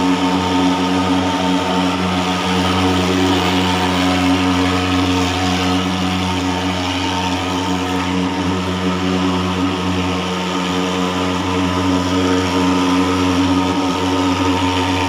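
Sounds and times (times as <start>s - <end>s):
fogging machine engine drone: 0.0s - 15.0s.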